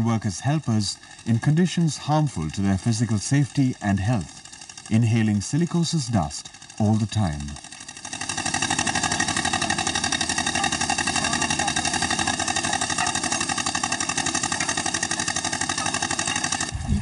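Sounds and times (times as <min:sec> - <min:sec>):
quarry machinery engine pulsing: 0:00.0 - 0:17.0.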